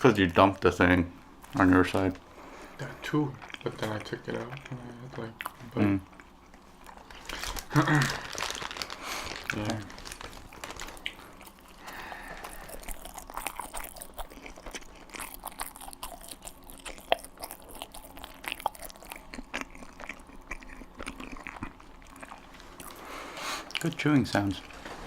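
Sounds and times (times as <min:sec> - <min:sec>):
wet chewing sounds: 0:01.4 - 0:24.7.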